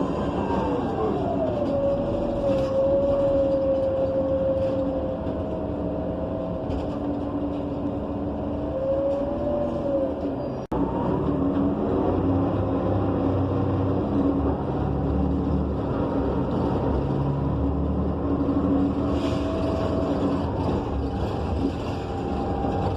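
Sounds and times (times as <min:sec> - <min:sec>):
bus engine running: 0:00.0 - 0:22.9
road rumble: 0:00.0 - 0:22.9.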